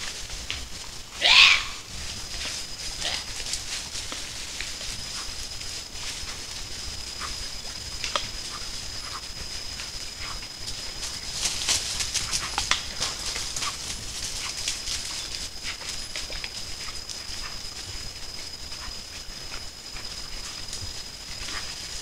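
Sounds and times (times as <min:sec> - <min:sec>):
rustles in leaf litter: 0:00.0 - 0:18.4
high-pitched whine: 0:00.0 - 0:22.0.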